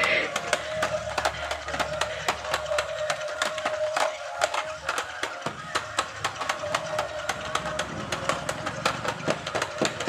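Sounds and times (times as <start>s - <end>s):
plastic wheels clacking on tiles: 0.0s - 10.0s
toy car motor humming: 0.0s - 10.0s.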